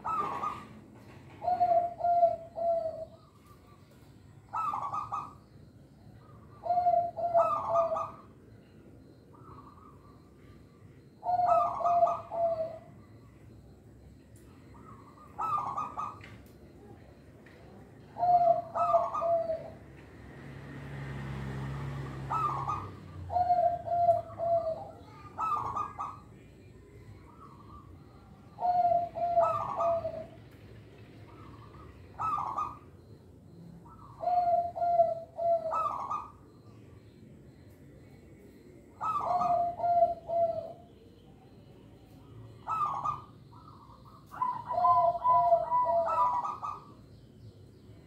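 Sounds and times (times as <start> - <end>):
dove cooing: 0.0 - 41.6, 42.2 - 47.1.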